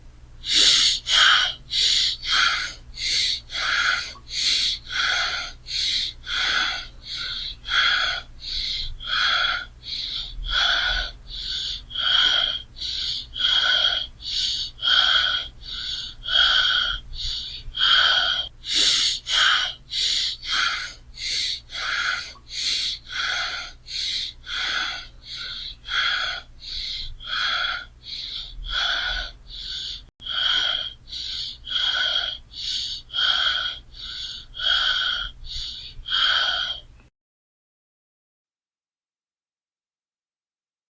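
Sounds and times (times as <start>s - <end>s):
person breathing heavily: 0.4s - 37.0s.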